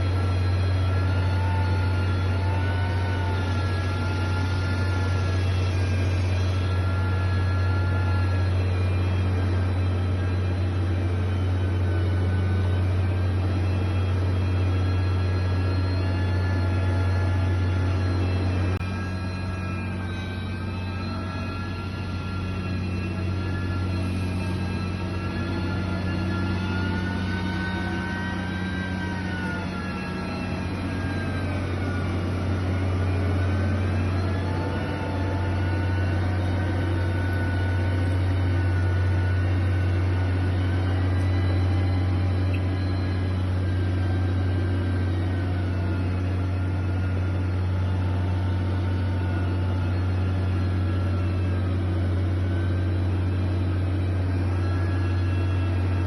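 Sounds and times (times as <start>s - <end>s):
heavy machine engine drone: 0.0s - 56.0s.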